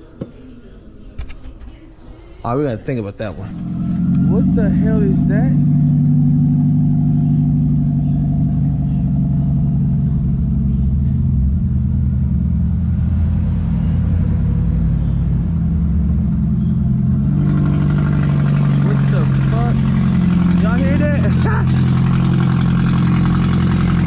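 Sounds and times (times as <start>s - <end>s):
loud car exhaust drone: 3.4s - 24.0s.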